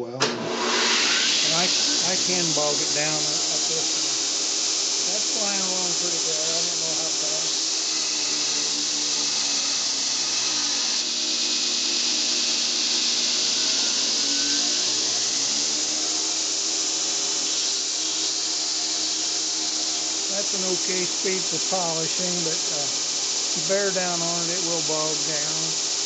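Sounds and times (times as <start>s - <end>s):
motor and belt humming: 0.2s - 26.0s
belt grinder grinding steel: 0.4s - 26.0s.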